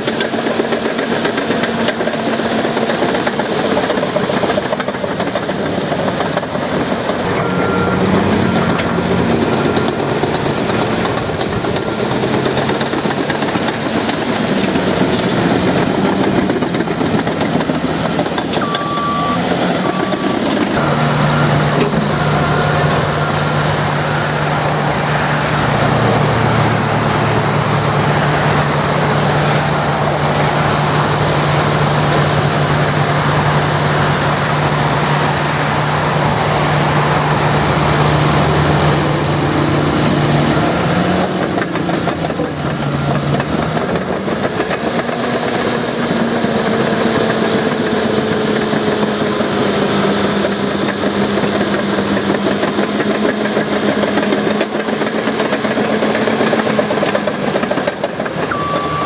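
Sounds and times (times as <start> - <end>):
heavy diesel engine droning: 0.0 - 59.0
heavy mechanical noise: 0.0 - 59.0.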